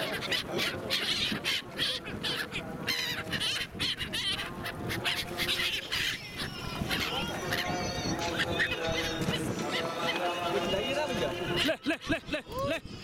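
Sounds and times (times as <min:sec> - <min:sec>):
gulls calling harshly: 0:00.0 - 0:12.4.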